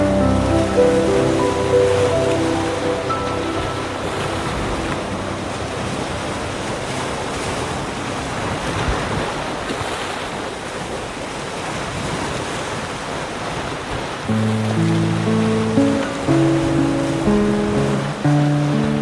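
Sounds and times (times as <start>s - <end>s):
ocean waves washing onto beach: 0.0s - 19.0s.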